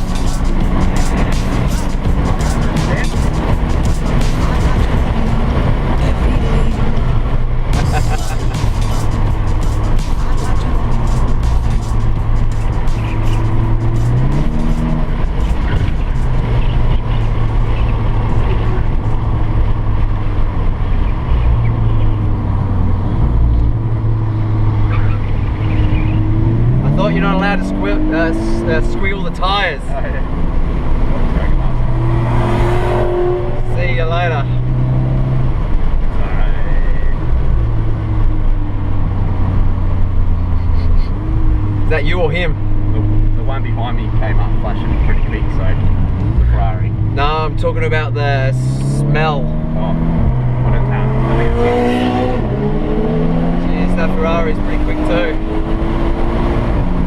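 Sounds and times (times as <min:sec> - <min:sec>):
car engine pulling hard: 0:00.0 - 0:57.0
tyre and road roar: 0:00.0 - 0:57.0.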